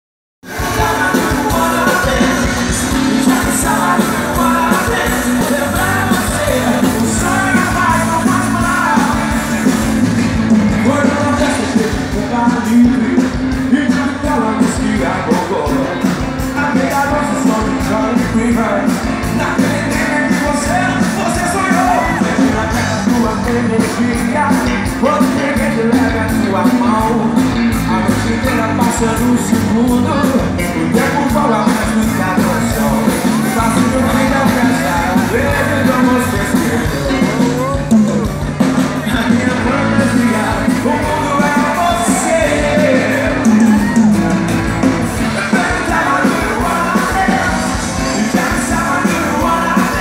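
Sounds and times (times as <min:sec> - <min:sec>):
drums: 0:00.4 - 0:50.0
electric guitar: 0:00.4 - 0:50.0
live rock band playing: 0:00.4 - 0:50.0
man singing: 0:00.4 - 0:50.0.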